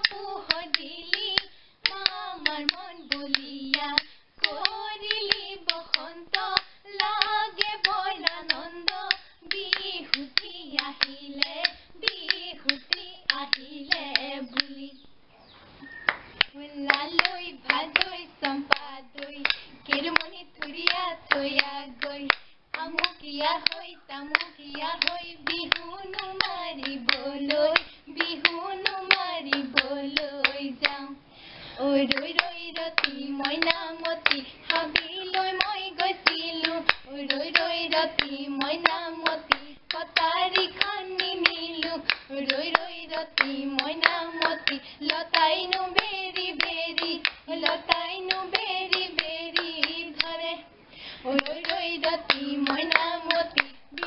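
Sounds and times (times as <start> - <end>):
rhythmic hand claps: 0.0 - 14.9, 16.1 - 31.1, 32.0 - 50.6, 51.2 - 54.0
bamboo clapper clacks: 0.0 - 15.0, 16.1 - 31.0, 32.0 - 50.5, 51.3 - 54.0
women singing folk song: 0.0 - 15.2, 16.4 - 54.0.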